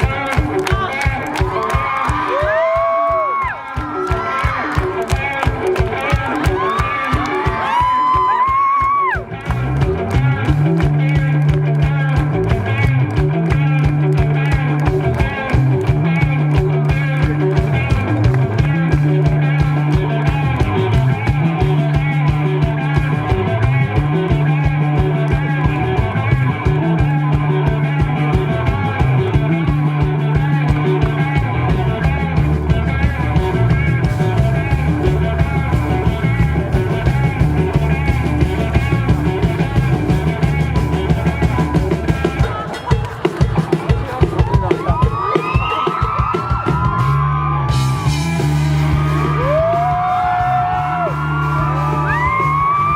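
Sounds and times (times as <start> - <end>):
bass guitar riff: 0.0 - 52.9
rock band playing live: 0.0 - 52.9.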